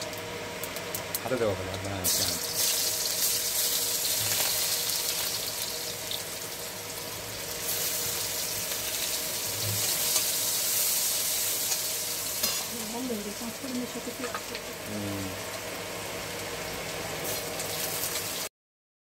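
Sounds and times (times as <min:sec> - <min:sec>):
onions sizzling in hot oil: 0:00.0 - 0:18.5.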